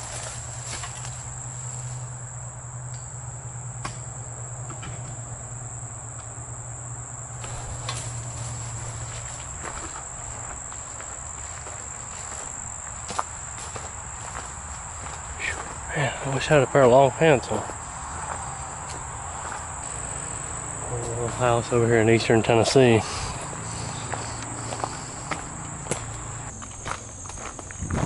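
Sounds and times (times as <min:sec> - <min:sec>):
low hum: 0:00.0 - 0:12.4, 0:13.3 - 0:28.0
insects trilling: 0:00.0 - 0:28.0.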